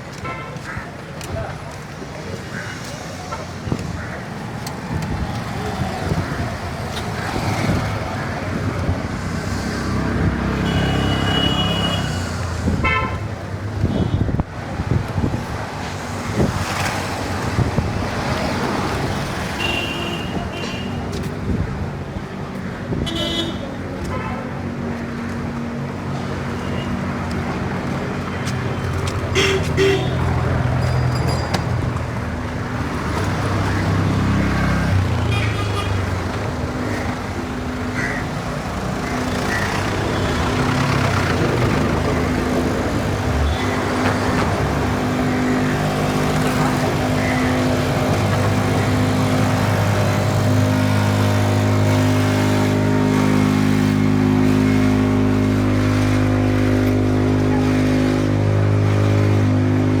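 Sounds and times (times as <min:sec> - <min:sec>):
traffic with engines running: 0:00.0 - 1:00.0.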